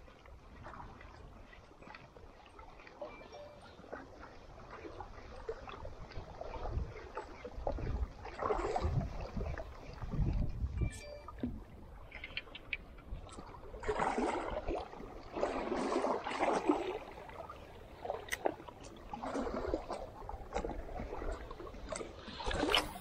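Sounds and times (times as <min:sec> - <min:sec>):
water slapping boat hull: 0:00.0 - 0:23.0.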